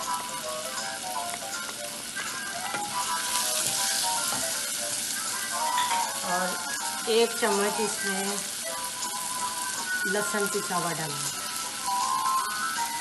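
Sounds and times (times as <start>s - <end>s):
food sizzling in hot oil: 0.0s - 13.0s
light background music: 0.0s - 13.0s.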